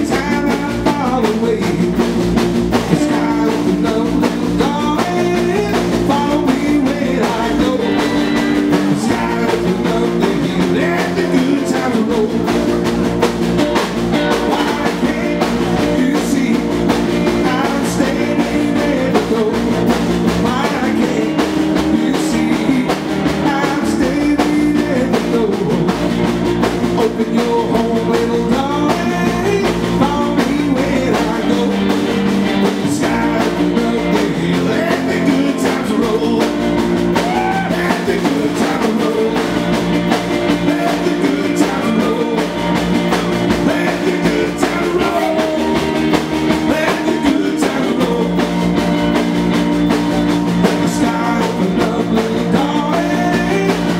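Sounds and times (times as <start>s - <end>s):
man singing into microphone: 0.0s - 2.2s, 2.8s - 13.0s, 14.2s - 26.2s, 26.8s - 48.8s, 50.6s - 53.9s
rock and roll band playing: 0.0s - 53.9s.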